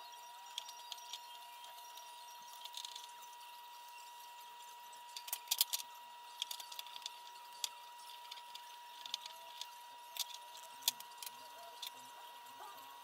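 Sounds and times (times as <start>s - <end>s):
faint steady high hum: 0.0s - 13.0s.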